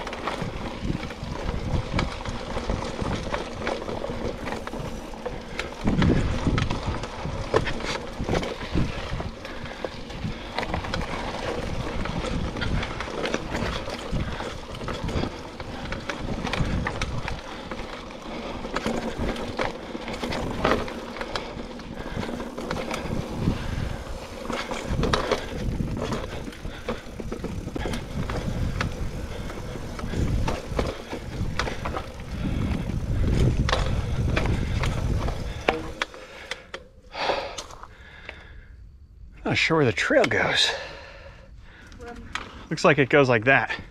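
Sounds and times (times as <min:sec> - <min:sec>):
bike chain and frame rattling: 0:00.0 - 0:38.6
bike tyres rolling on dirt: 0:00.0 - 0:43.9.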